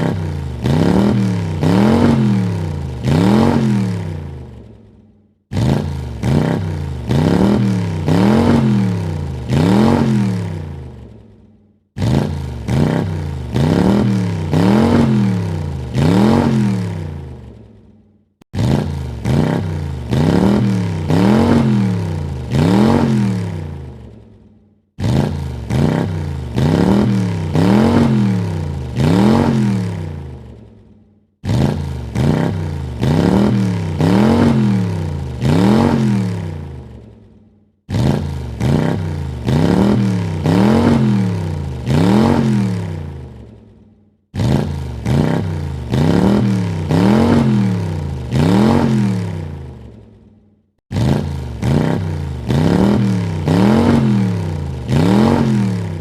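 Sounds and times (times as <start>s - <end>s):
car engine revving: 0.0s - 4.7s, 5.5s - 11.3s, 12.0s - 17.6s, 18.6s - 24.2s, 25.0s - 30.6s, 31.4s - 37.1s, 37.9s - 43.6s, 44.4s - 50.0s, 50.9s - 56.0s.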